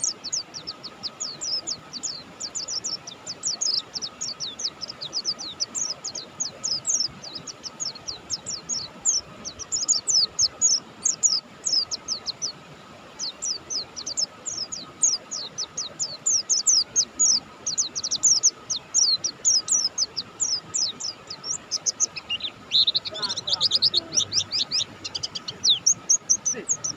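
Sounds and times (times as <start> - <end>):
bird chirping rapidly: 0.0 - 12.5, 13.2 - 26.9.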